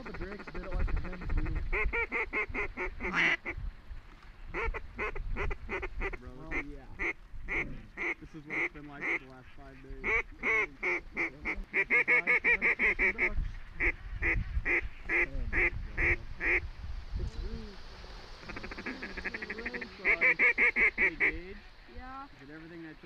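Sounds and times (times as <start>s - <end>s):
duck quacking: 0.0s - 3.6s, 4.5s - 16.7s, 18.4s - 21.6s.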